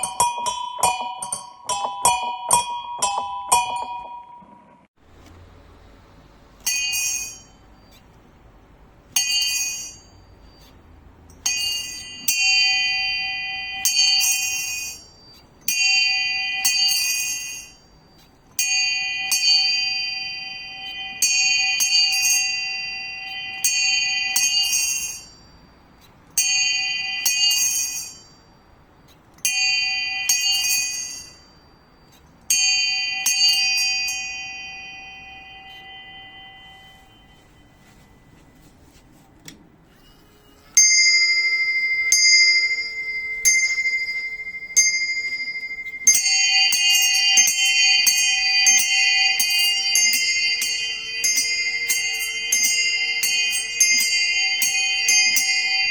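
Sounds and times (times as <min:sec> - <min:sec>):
small bells ringing: 0:00.0 - 0:04.5, 0:06.6 - 0:08.4, 0:09.0 - 0:38.4, 0:40.1 - 0:55.9.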